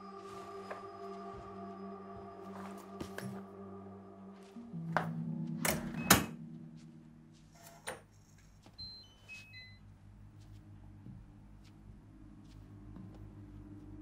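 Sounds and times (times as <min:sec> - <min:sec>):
faint room hum: 0:00.0 - 0:14.0
low held music notes: 0:00.0 - 0:14.0.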